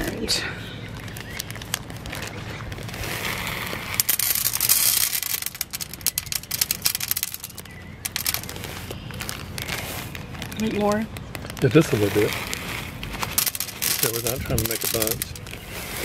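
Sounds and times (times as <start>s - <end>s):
popcorn kernels pattering into a pan: 1.0s - 15.6s.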